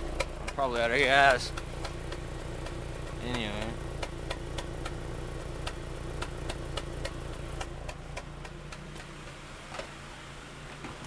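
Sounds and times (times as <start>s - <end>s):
light engine ticking: 0.0s - 10.0s
car engine idling: 0.0s - 11.0s.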